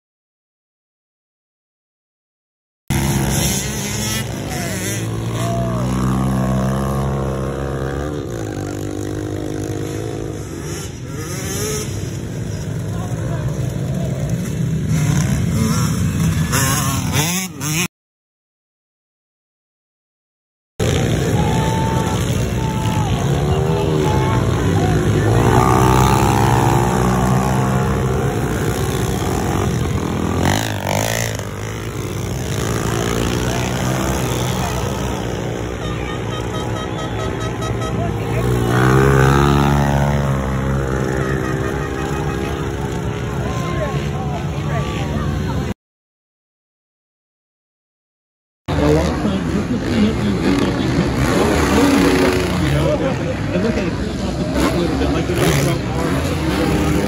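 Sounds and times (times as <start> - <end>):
pit bike engines revving: 2.9 - 17.9, 20.8 - 45.7, 48.7 - 57.0.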